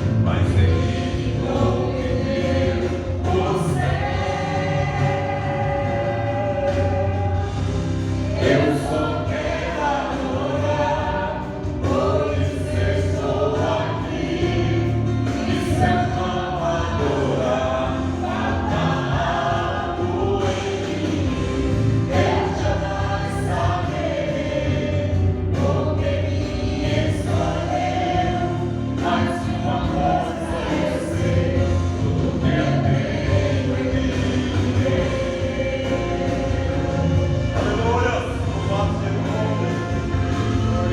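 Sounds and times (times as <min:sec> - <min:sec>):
group of voices singing: 0:00.0 - 0:40.9
musical accompaniment: 0:00.0 - 0:40.9.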